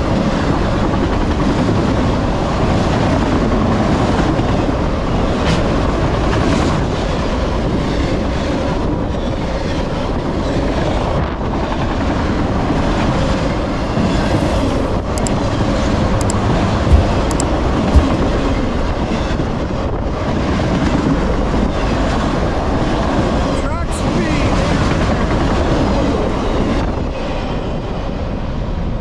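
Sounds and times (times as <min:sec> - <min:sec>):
freight train rolling past: 0:00.1 - 0:28.9.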